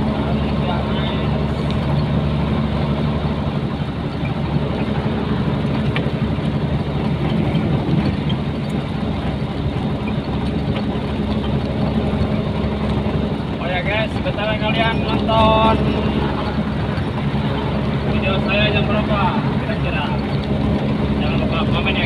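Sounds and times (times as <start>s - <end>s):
diesel truck engine running: 0.0s - 22.0s
road noise: 0.0s - 22.0s.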